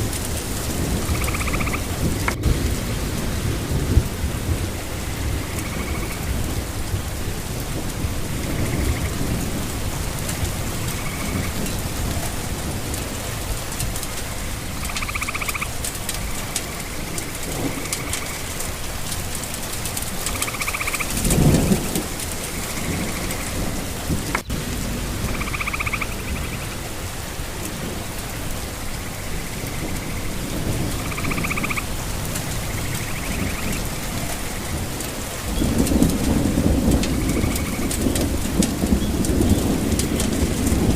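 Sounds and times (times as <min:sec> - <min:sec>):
steady rain: 0:00.0 - 0:40.9
thunder rumbling: 0:00.0 - 0:40.9.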